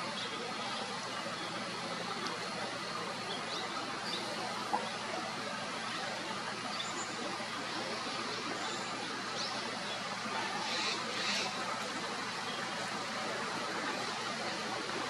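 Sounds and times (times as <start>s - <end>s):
forest background hiss: 0.0s - 15.0s.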